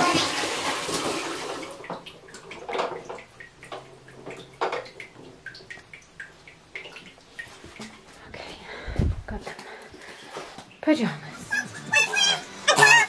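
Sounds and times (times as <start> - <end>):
bathwater splashing and dripping: 0.0 - 13.0.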